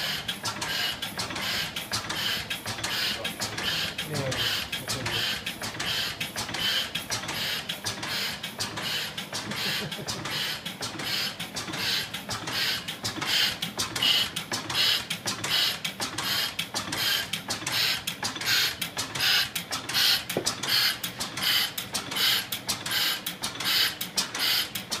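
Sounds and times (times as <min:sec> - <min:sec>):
steam engine mechanical clatter: 0:00.0 - 0:25.0.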